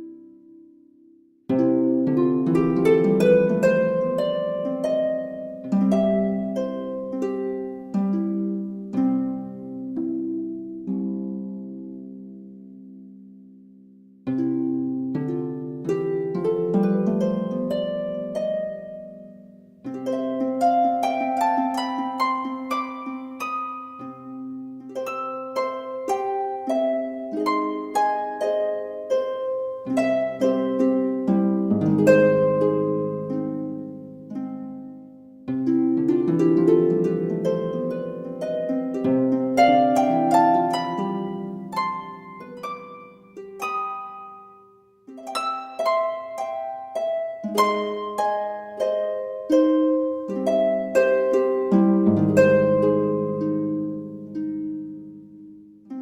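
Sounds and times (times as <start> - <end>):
plucked harp notes: 1.5 - 13.2, 14.2 - 56.0.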